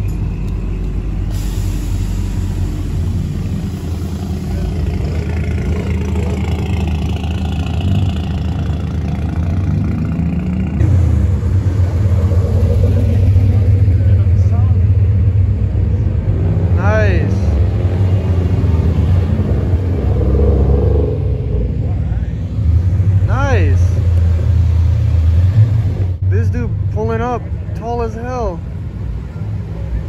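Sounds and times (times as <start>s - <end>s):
deep exhaust rumble: 0.0s - 27.8s
cars driving slowly past: 0.0s - 30.0s.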